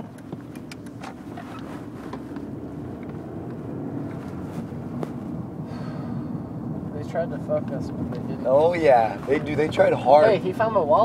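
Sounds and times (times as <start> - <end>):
car cabin engine and road rumble: 0.0 - 11.0.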